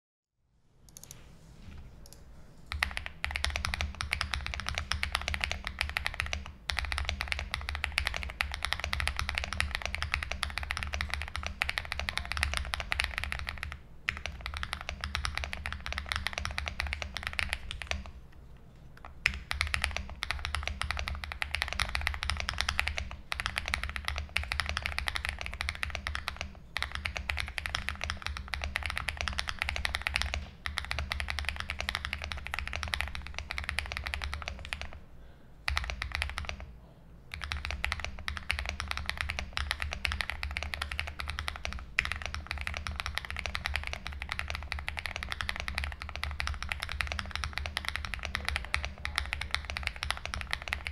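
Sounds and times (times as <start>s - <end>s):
fast typing on mechanical keyboard: 2.7s - 18.1s, 19.0s - 35.0s, 35.7s - 36.7s, 37.3s - 50.9s.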